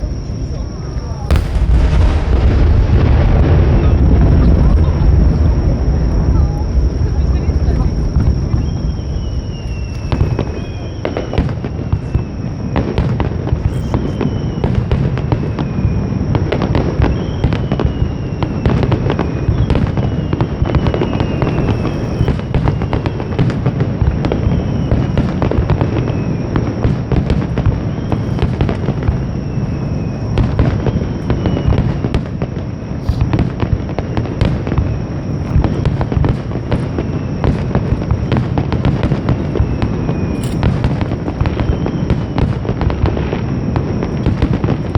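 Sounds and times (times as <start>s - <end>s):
firework shell bursts and crackling: 0.0s - 5.9s, 6.7s - 44.9s
low rumble of booms: 0.0s - 44.9s.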